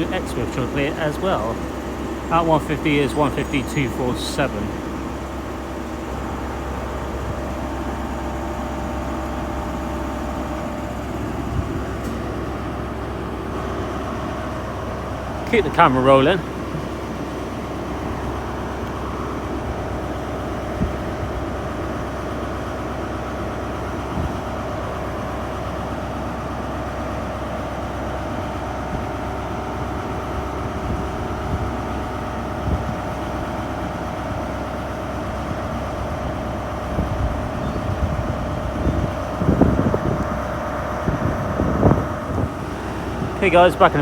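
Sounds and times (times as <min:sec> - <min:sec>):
diesel train engine idling: 0:00.0 - 0:44.0.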